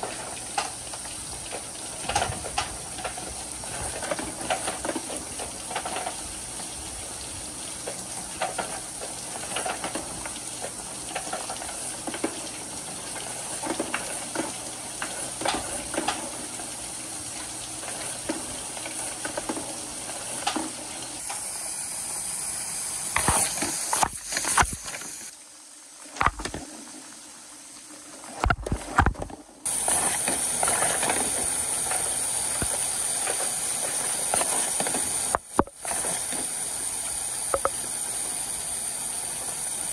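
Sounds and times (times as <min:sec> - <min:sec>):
water rushing down gutters: 0:00.0 - 0:39.9.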